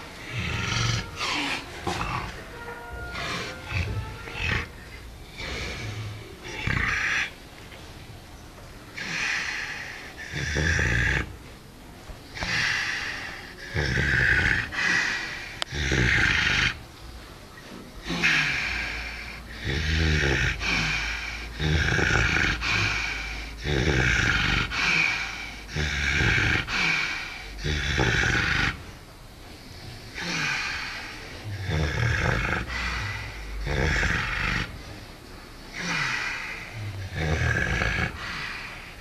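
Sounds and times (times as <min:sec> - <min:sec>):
pig snoring: 0:00.0 - 0:02.4, 0:03.1 - 0:07.3, 0:09.0 - 0:11.3, 0:12.4 - 0:16.8, 0:18.0 - 0:28.9, 0:29.9 - 0:39.0.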